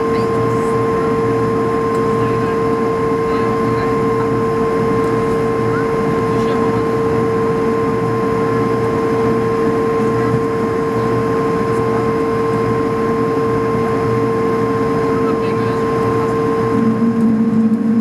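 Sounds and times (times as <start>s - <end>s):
continuous cabin rumble: 0.0s - 18.0s
jet engine whine: 0.0s - 18.0s.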